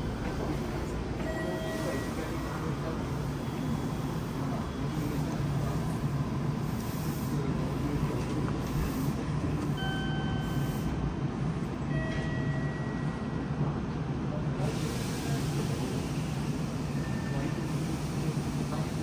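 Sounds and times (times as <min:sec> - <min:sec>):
stationary train hum: 0:00.0 - 0:19.0.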